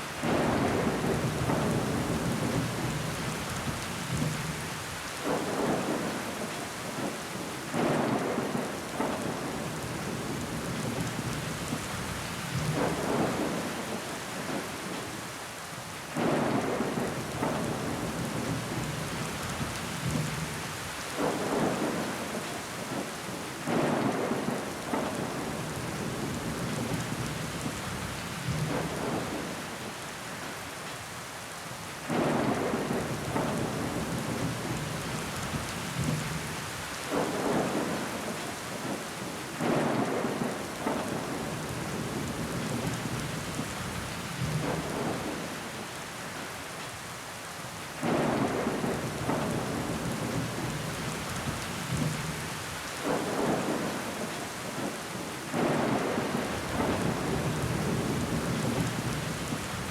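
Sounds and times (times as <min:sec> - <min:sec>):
rain against window pane: 0:00.0 - 0:59.9.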